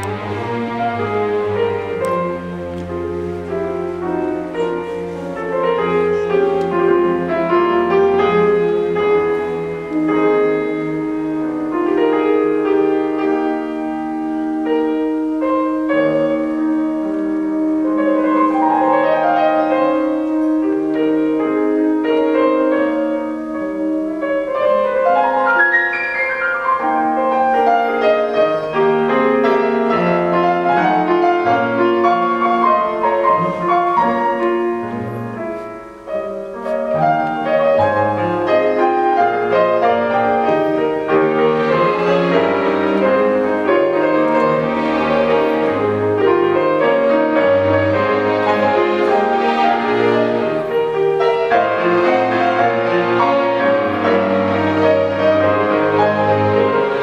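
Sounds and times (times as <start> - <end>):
orchestral strings: 0.0 - 57.0
piano playing: 0.0 - 57.0.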